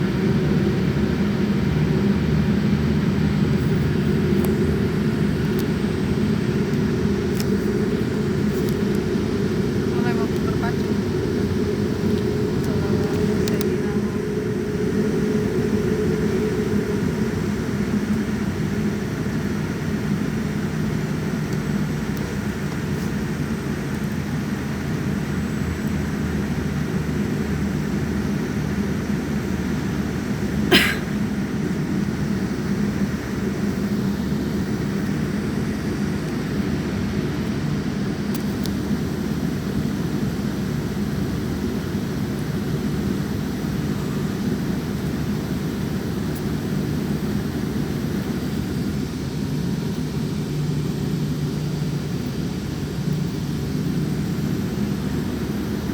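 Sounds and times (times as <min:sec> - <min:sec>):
jet engine drone in cabin: 0:00.0 - 0:55.9.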